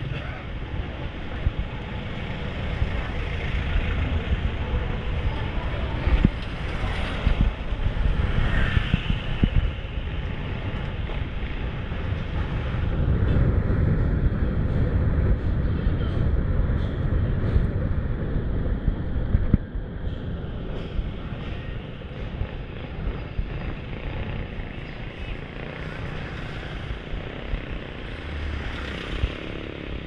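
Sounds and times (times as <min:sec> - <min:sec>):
road rumble: 0:00.0 - 0:30.0
traffic noise: 0:00.0 - 0:30.0
wind on microphone: 0:00.0 - 0:30.0.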